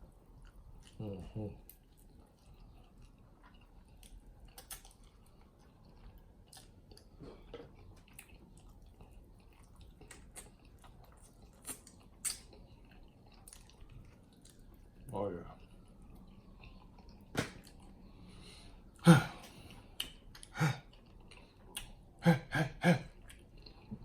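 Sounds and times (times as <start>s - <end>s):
person chewing wetly: 0.0s - 22.2s, 23.0s - 24.0s.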